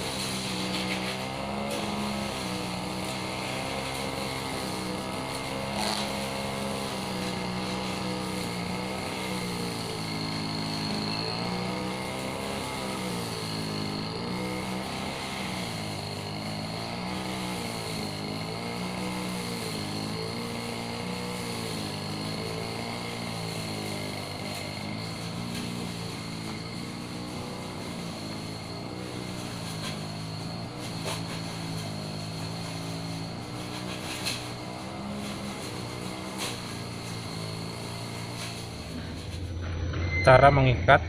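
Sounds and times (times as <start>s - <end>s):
grass trimmer engine revving: 0.0s - 39.5s
steady high whine: 0.0s - 41.0s.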